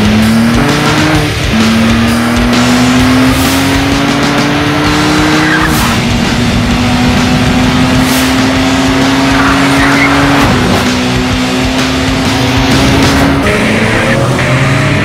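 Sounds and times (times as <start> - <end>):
car engine revving high: 0.0 - 15.0.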